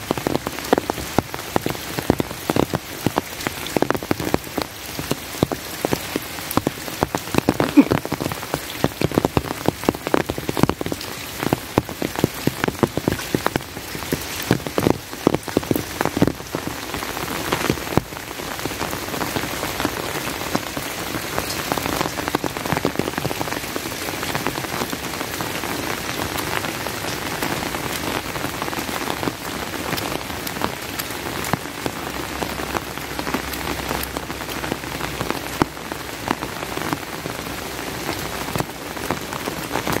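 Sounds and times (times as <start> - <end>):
heavy rain hissing: 0.0 - 40.0
sharp raindrop hits: 0.0 - 40.0.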